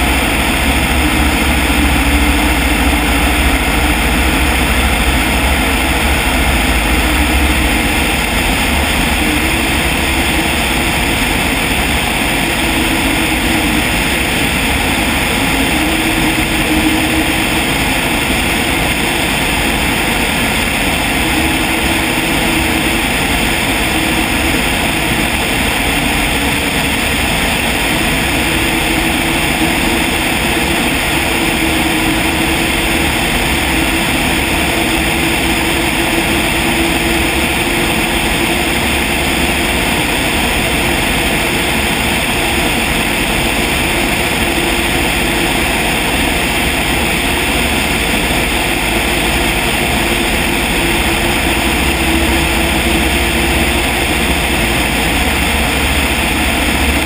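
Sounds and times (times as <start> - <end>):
light aircraft engine droning: 0.0 - 57.0
wind rushing over microphone: 0.0 - 57.0.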